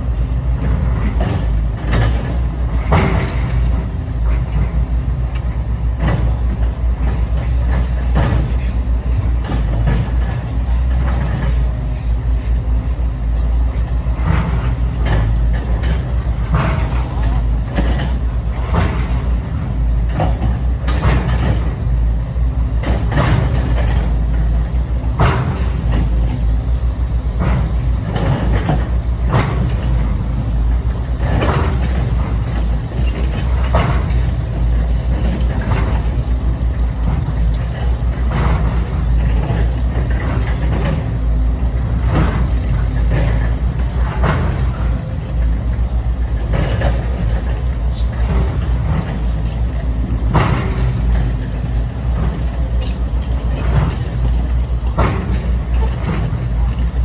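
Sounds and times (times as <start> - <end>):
motor and hydraulic pump hum: 0.0 - 57.0
machine clatters: 0.5 - 11.7, 13.7 - 57.0.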